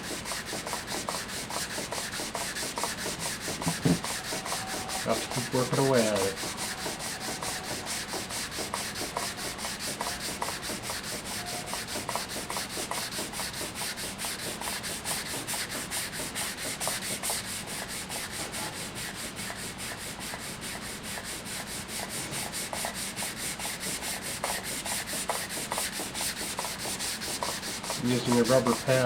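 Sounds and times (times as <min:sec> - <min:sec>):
sandpaper rubbing on wood: 0:00.0 - 0:29.0.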